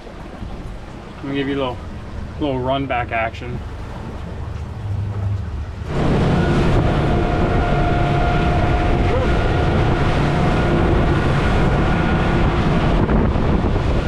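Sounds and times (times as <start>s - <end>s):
outboard motors droning with whine: 0.0s - 14.0s.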